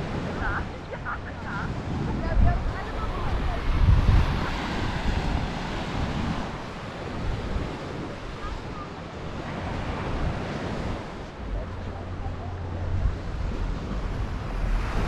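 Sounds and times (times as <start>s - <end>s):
surf washing onto beach: 0.0s - 15.0s
wind gusting on microphone: 0.0s - 15.0s.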